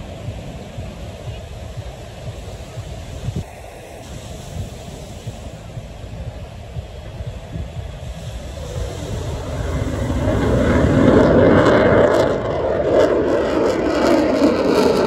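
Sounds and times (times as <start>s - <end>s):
jet engine roar: 2.2s - 15.0s.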